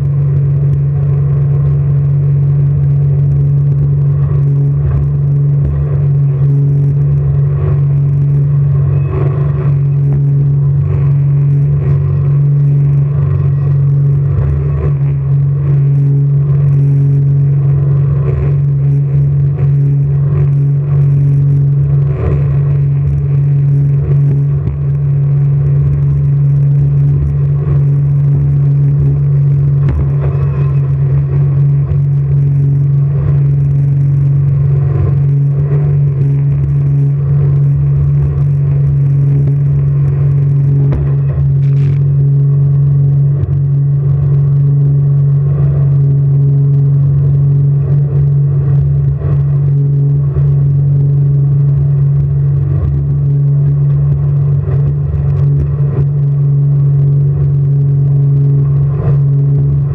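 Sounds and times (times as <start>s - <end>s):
boat engine low drone: 0.0s - 59.9s.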